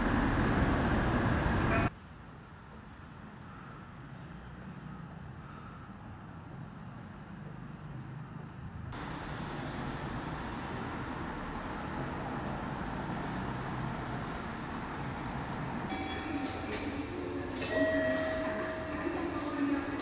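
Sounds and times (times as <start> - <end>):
vehicles rumbling: 0.0 - 2.0, 2.7 - 20.0.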